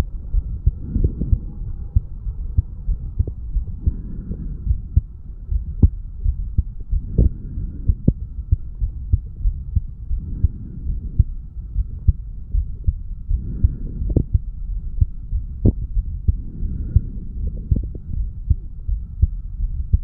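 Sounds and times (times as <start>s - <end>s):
faint steady hum: 0.0s - 20.0s
muffled heartbeat thumps: 0.0s - 20.0s.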